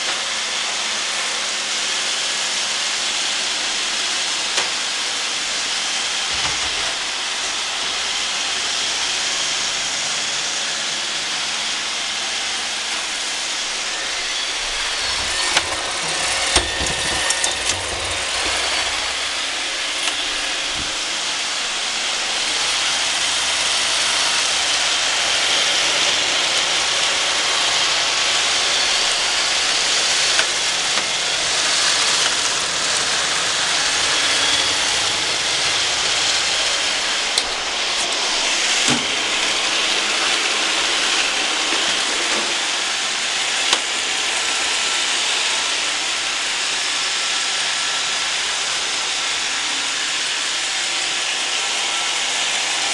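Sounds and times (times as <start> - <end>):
robot vacuum whirring: 2.3 - 52.9.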